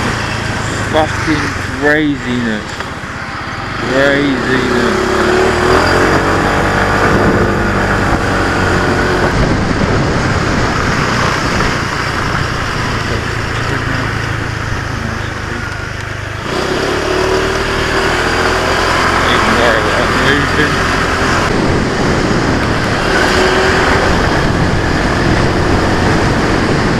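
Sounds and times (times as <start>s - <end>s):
small motorcycle engine: 0.0s - 26.9s
wind and road noise: 0.0s - 26.9s.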